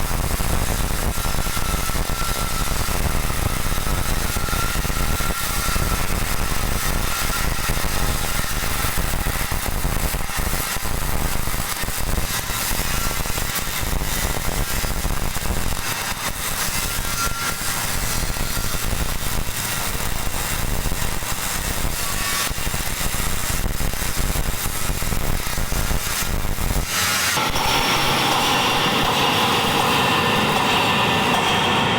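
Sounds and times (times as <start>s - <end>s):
welding arc crackling and sizzling: 0.0s - 30.9s.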